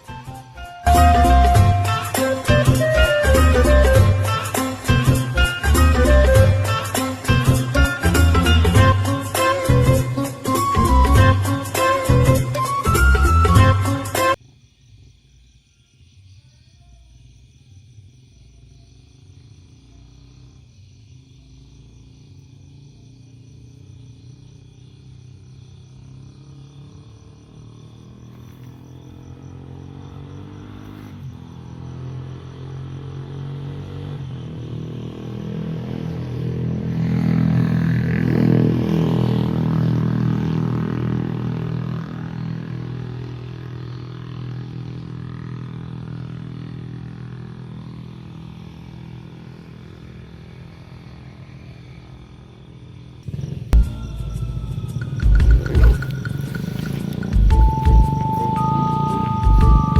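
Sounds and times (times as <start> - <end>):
motor engine passing by: 0.0 - 14.2, 19.0 - 59.9.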